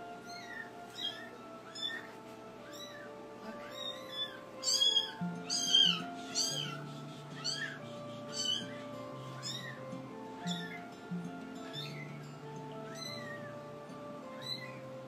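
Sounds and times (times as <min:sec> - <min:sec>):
background music with held notes: 0:00.0 - 0:15.0
kitten mewing: 0:00.2 - 0:10.9, 0:11.6 - 0:12.2, 0:12.9 - 0:13.6, 0:14.3 - 0:14.8.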